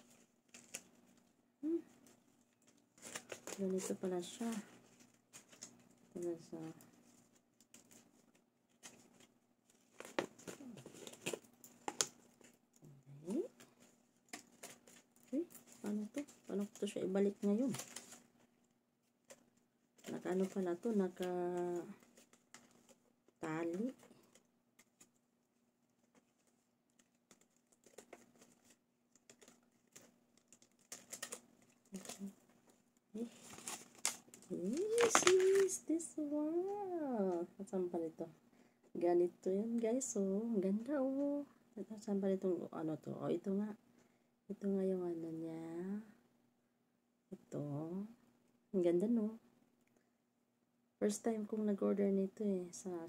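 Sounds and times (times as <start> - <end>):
light rustling of packaging: 0.0 - 44.8.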